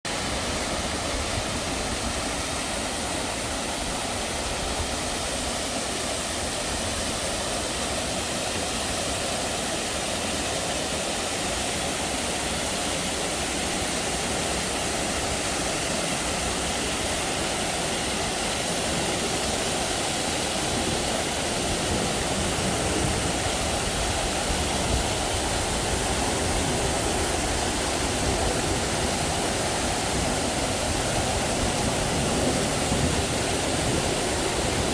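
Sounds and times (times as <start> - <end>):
waterfall rushing roar: 0.1 - 34.9.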